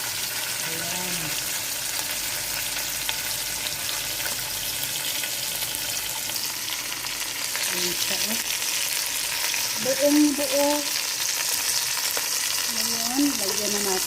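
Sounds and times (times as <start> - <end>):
oil sizzling in a pot: 0.0 - 14.0.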